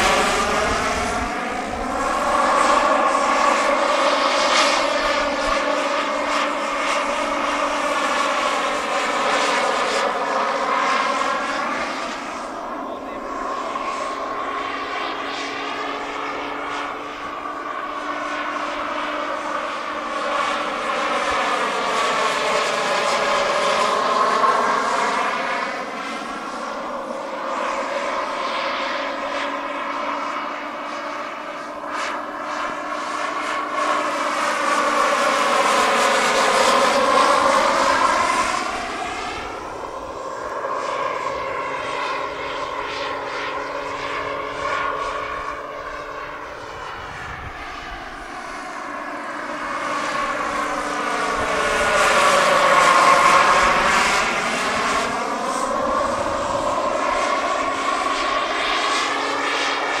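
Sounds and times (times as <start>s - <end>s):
model helicopter turbine whine: 0.0s - 60.0s.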